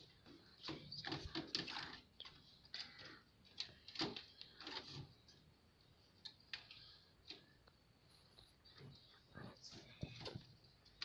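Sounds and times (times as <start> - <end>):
faint clicks and knocks: 0.0 - 11.0.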